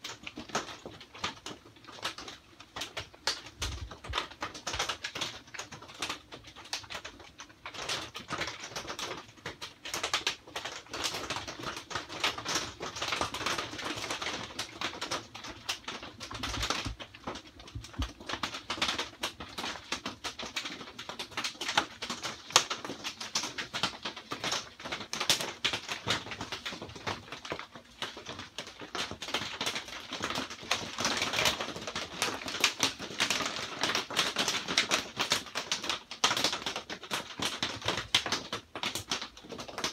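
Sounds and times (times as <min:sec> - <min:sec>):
rain on a plastic roof: 0:00.0 - 0:39.9.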